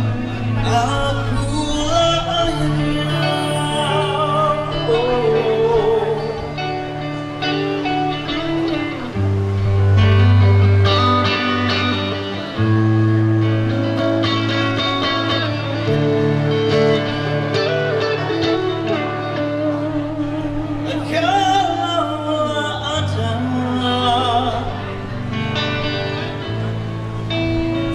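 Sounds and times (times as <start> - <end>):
bass guitar: 0.0 - 27.9
electric guitar: 0.0 - 27.9.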